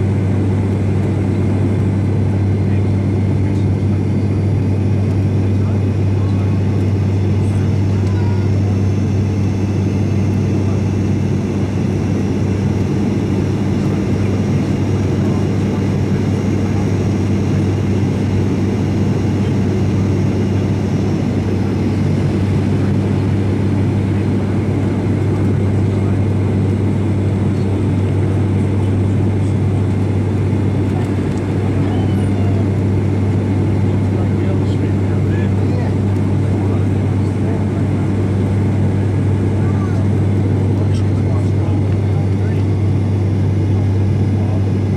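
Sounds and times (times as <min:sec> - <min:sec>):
turboprop cabin drone: 0:00.0 - 0:44.9.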